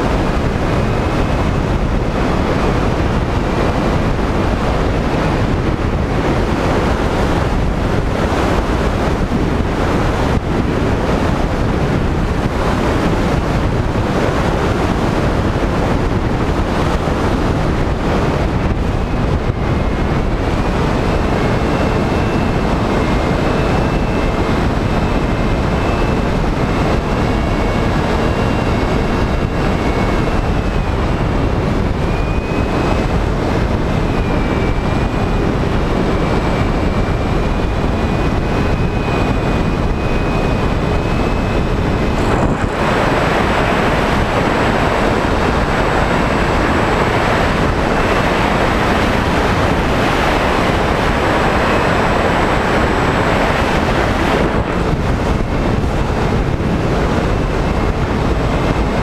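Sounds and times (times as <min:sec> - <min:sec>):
electric motor and propeller whine: 0:00.0 - 0:59.0
wind rushing over microphone: 0:00.0 - 0:59.0.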